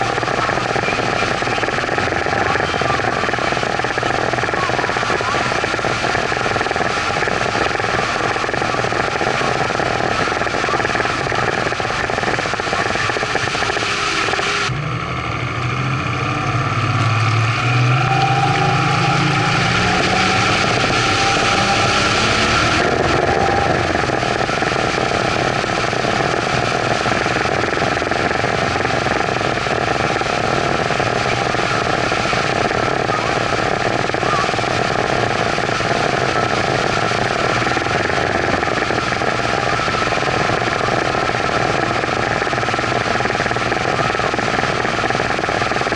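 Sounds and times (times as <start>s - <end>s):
churning boat wake: 0.0s - 45.9s
outboard motor running: 0.0s - 45.9s.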